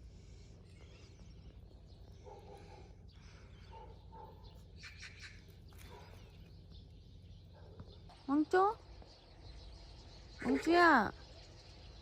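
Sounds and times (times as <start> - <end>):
faint rural ambience: 0.0 - 12.0
high bird chirps: 0.5 - 12.0.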